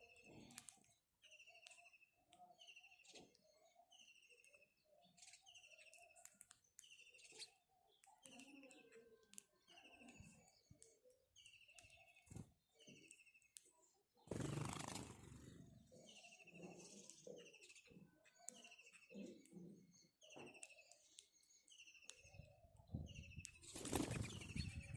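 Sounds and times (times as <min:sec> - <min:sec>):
sparrows chirping faintly: 0:00.0 - 0:24.9.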